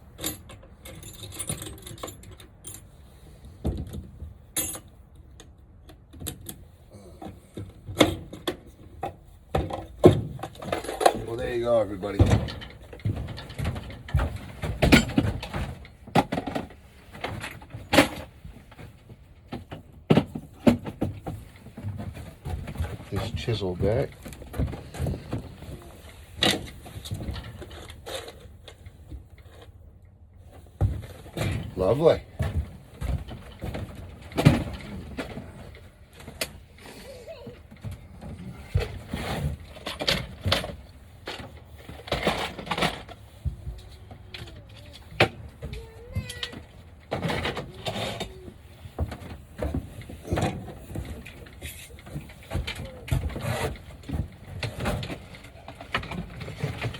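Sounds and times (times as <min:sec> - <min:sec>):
light clatter: 0:00.0 - 0:56.9.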